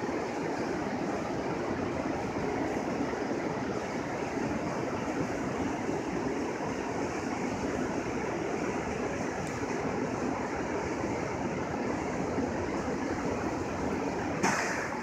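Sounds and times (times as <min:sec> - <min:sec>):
steady rushing traffic roar: 0:00.0 - 0:15.0.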